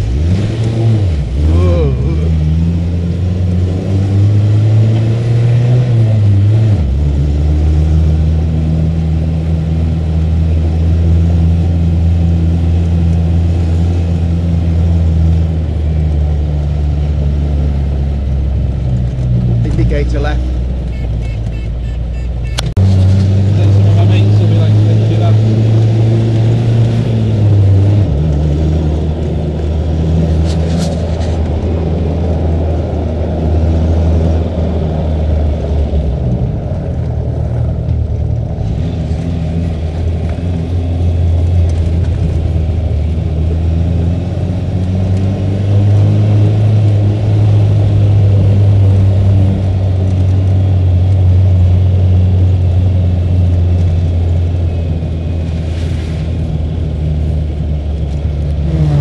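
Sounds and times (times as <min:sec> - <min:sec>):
off-road car engine running: 0:00.0 - 0:59.0
rumble from car and track: 0:00.0 - 0:59.0.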